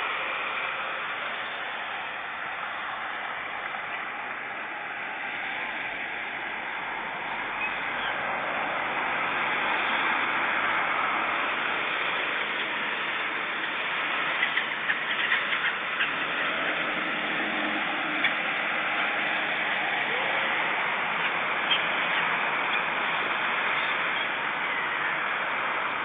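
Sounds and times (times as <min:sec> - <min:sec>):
steady rushing noise: 0:00.0 - 0:23.8.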